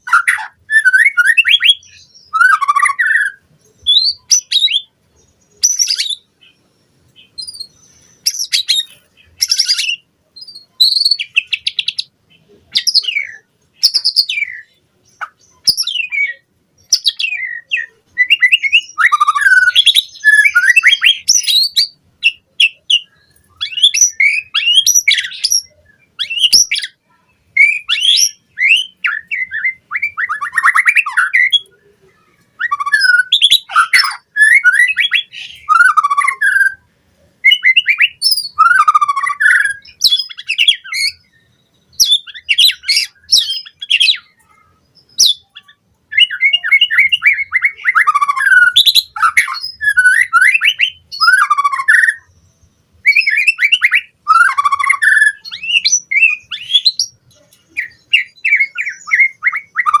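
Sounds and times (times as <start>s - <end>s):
bird singing whistled phrases: 0.0s - 4.9s, 5.5s - 6.6s, 7.4s - 12.1s, 12.7s - 52.4s, 53.0s - 60.0s.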